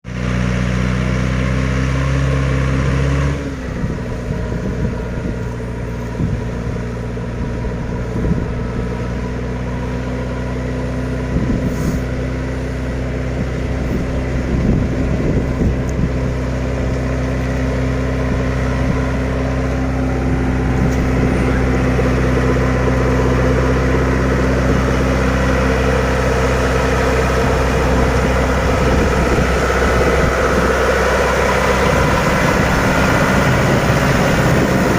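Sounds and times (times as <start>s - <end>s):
heavy vehicle engine running: 0.0s - 34.9s.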